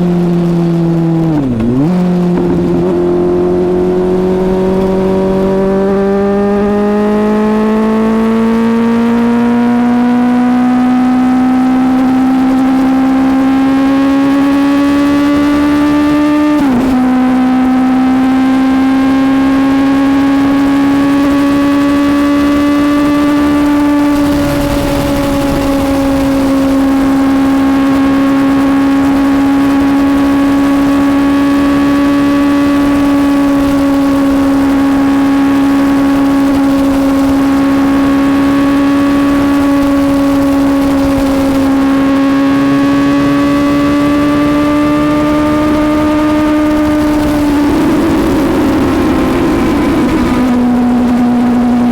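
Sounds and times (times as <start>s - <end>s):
motorcycle engine at speed: 0.0s - 51.9s
wind and road rush: 0.0s - 51.9s.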